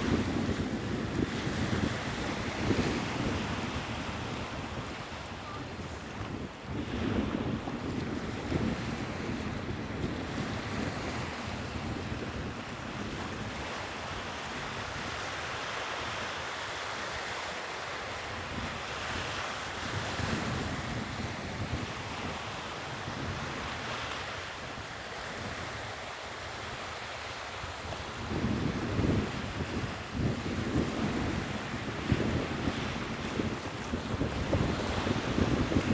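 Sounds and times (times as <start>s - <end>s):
sea waves washing on shore: 0.0s - 35.9s
wind buffeting microphone: 0.0s - 35.9s.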